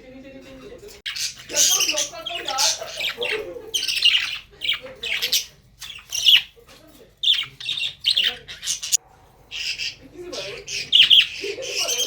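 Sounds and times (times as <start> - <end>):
parrots squawking: 1.1 - 6.6, 7.2 - 12.0.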